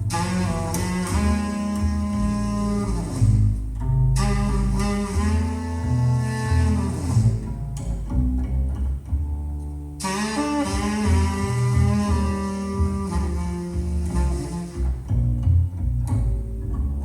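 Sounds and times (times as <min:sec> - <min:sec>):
instrumental music through speakers: 0:00.0 - 0:17.0.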